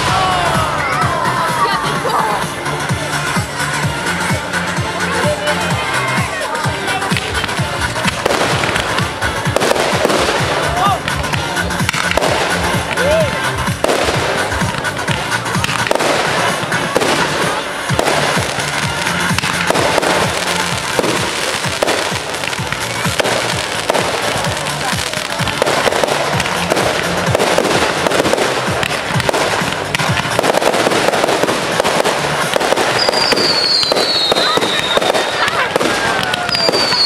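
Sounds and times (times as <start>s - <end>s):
background music: 0.0s - 37.0s
fireworks crackling: 0.0s - 37.0s.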